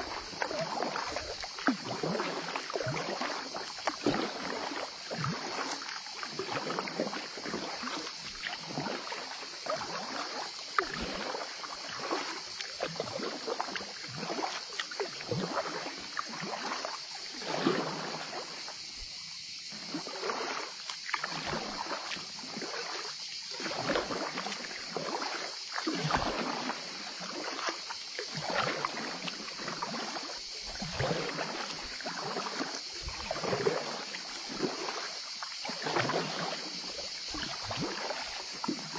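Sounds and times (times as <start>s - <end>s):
kayak paddle strokes in water: 0.0s - 38.9s
water splashes and drips: 0.0s - 38.9s.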